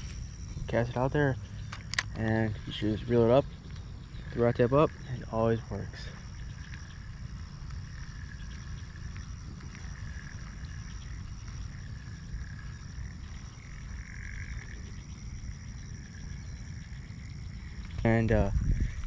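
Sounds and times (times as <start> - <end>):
frog trilling: 0.0 - 19.0
wind rumble on microphone: 0.0 - 19.0.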